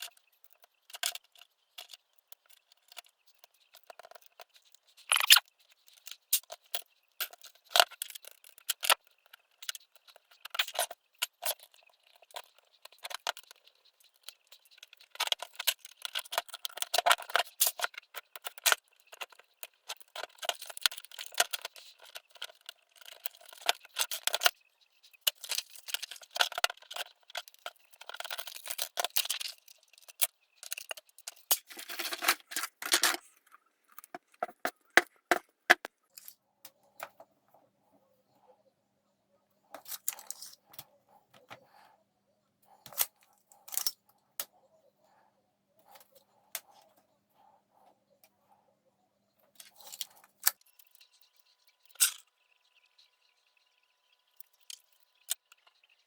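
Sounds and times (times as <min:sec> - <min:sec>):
plastic parts clicking and scraping: 0:00.0 - 0:37.3, 0:39.7 - 0:41.8, 0:42.8 - 0:44.6, 0:49.4 - 0:52.4, 0:54.3 - 0:56.0.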